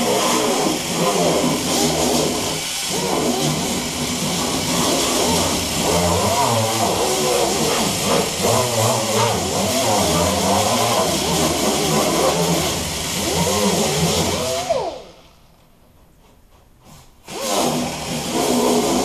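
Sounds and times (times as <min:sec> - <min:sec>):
air die grinder on metal: 0:00.0 - 0:15.2, 0:17.2 - 0:19.0.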